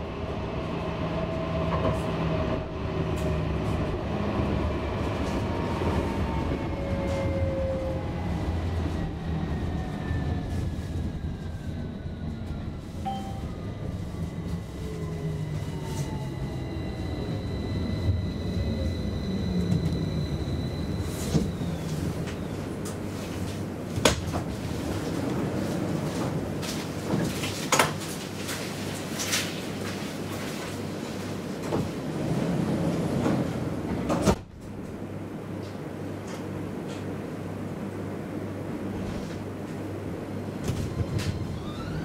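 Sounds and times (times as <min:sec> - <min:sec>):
tram wheels rumbling on rail: 0:00.0 - 0:42.0.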